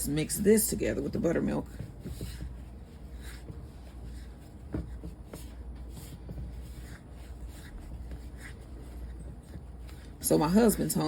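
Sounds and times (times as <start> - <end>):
dough scraping and rubbing: 0.0 - 11.0.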